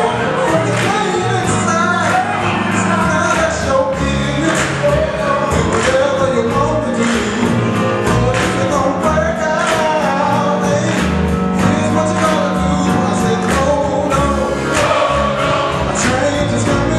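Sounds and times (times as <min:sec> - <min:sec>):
band accompaniment: 0:00.0 - 0:16.9
gospel choir singing: 0:00.0 - 0:16.9.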